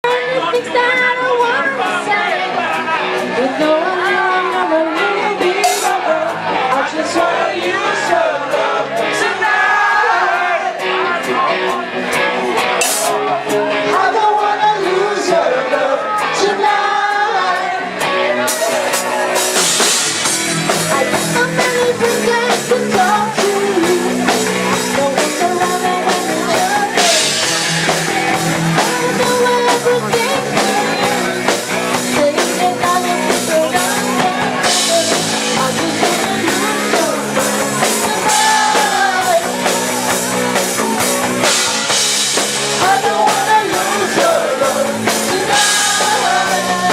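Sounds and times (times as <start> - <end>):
person singing: 0.0 - 11.8, 12.8 - 46.9
live rock band playing: 0.0 - 46.9.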